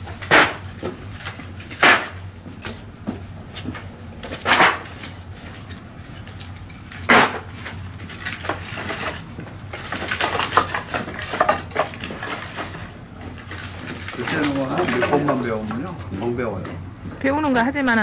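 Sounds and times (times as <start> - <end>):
hard objects clattering: 0.0 - 17.5.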